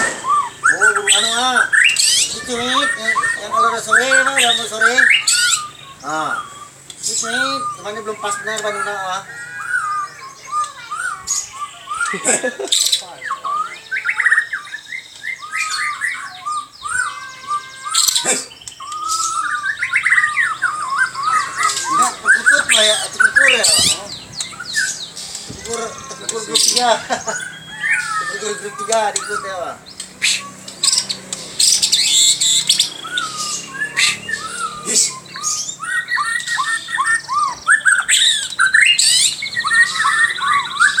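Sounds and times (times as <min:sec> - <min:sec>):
bird singing whistles and trills: 0:00.0 - 0:41.0
harsh bird call: 0:00.0 - 0:41.0.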